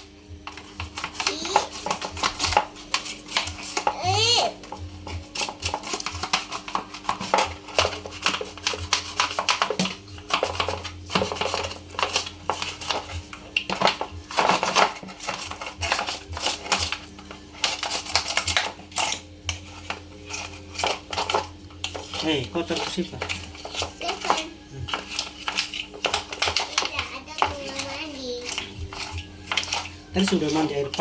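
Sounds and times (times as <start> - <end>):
hard objects clattering: 0.0 - 31.0.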